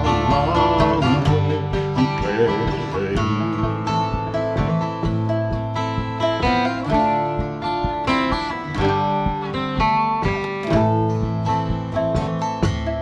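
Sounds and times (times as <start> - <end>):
acoustic guitar: 0.0 - 13.0
mandolin picking: 0.0 - 13.0.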